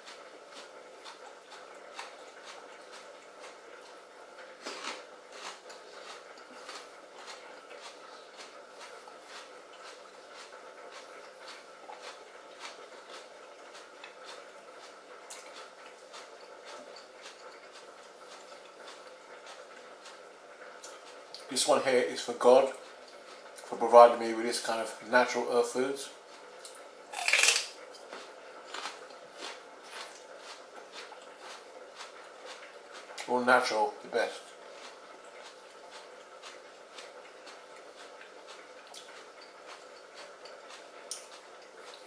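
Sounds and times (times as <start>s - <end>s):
celery crunching being chewed: 0.0s - 21.5s, 26.3s - 33.4s, 34.0s - 42.0s.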